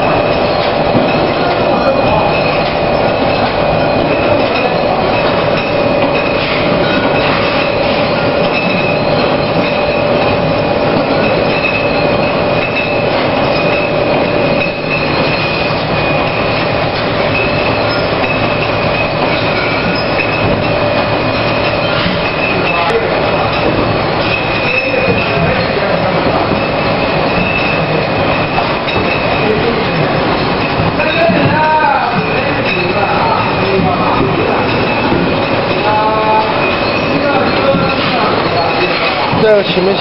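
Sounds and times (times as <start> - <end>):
constant high whine: 0.0 - 40.0
labelling machine running: 0.0 - 40.0.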